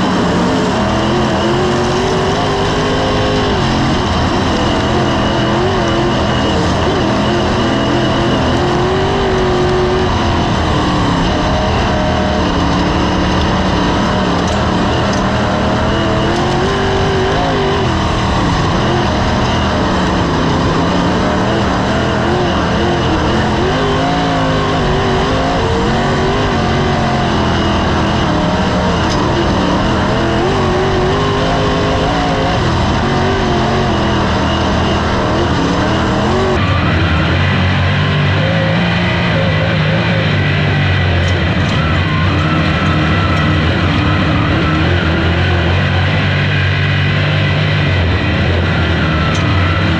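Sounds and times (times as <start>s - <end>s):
race car engine: 0.0s - 49.9s.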